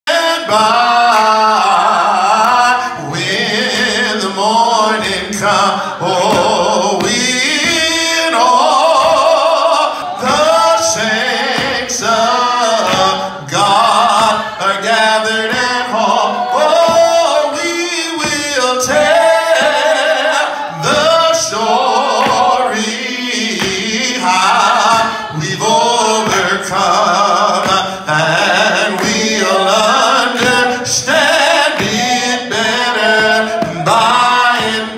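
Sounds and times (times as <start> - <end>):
man singing gospel: 0.0 - 34.9.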